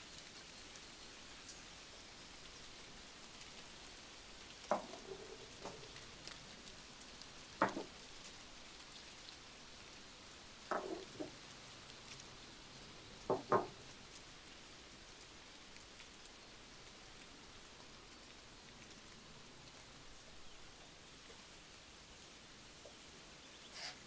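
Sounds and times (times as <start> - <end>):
faint hiss with pattering ticks: 0.0 - 24.0.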